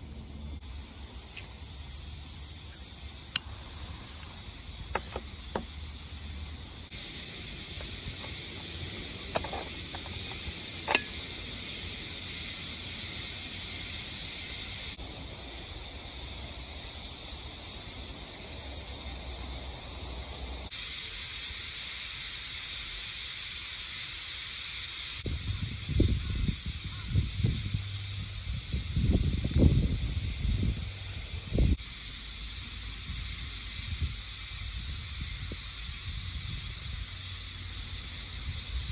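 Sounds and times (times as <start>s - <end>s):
insects shrilling: 0.0s - 38.9s.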